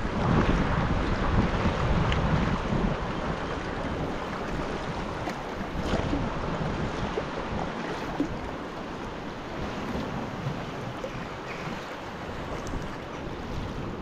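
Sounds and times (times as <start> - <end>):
water splashing around kayak: 0.0 - 14.0
wind on microphone: 0.0 - 14.0.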